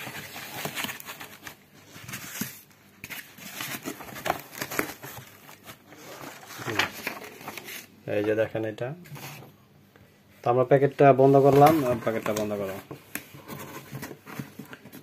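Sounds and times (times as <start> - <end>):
packing materials rustling and crinkling: 0.0 - 8.5, 11.0 - 15.0.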